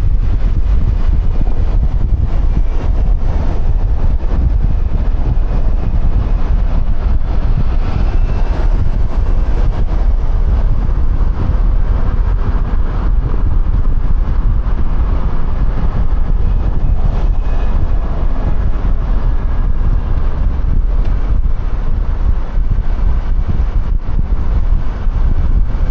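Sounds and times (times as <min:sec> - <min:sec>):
road noise: 0:00.0 - 0:25.9
wind rush on microphone: 0:00.0 - 0:25.9.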